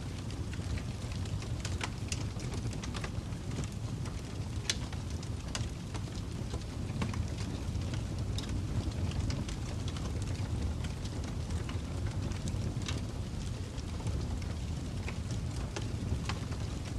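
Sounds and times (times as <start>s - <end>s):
fire pops and snaps: 0.0s - 16.9s
fire rumble: 0.0s - 16.9s.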